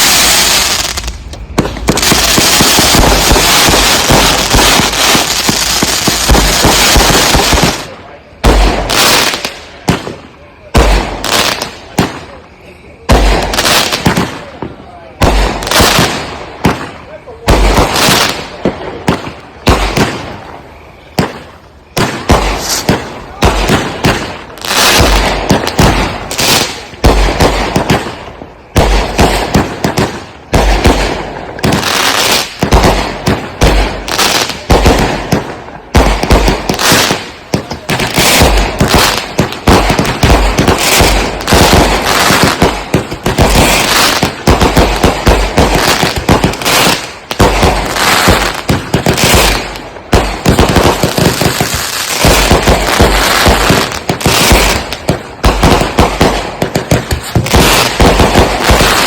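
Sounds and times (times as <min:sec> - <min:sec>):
firework bursts with crackle: 0:00.0 - 0:59.0.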